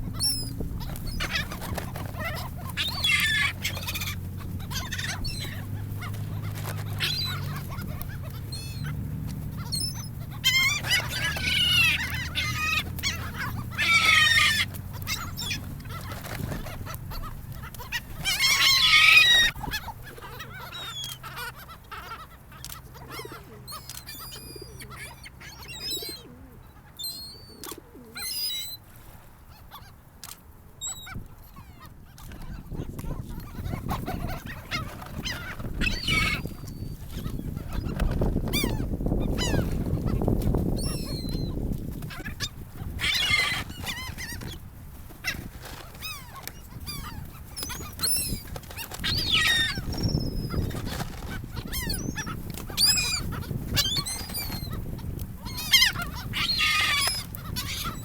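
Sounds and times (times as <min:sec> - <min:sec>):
gulls calling: 0:00.0 - 0:58.0.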